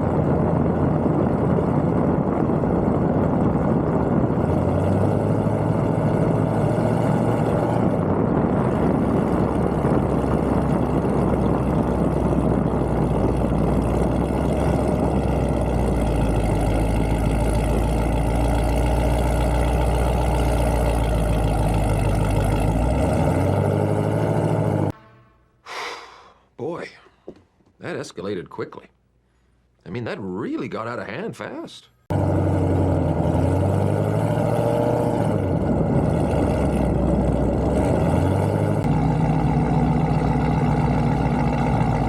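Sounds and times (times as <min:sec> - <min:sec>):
car engine running steadily: 0:00.0 - 0:25.0, 0:32.1 - 0:42.0.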